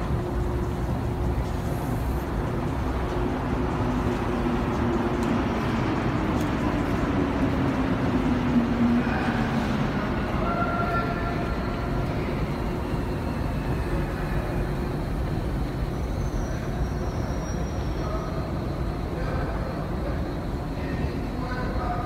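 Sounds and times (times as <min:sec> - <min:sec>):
metro station background noise: 0:00.0 - 0:22.0.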